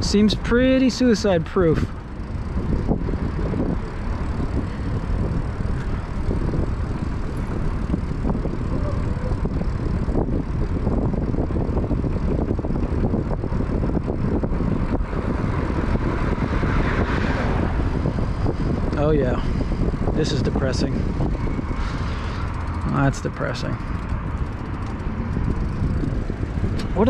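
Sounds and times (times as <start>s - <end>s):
road noise: 0.0s - 27.0s
wind buffeting microphone: 0.0s - 27.0s
wind rumbling: 0.0s - 27.0s.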